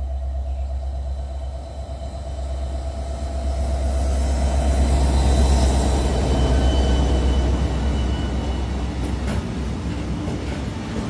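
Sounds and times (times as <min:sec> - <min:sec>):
locomotive engine rumble: 0:00.0 - 0:11.0
train wheel and rail noise: 0:00.0 - 0:11.0.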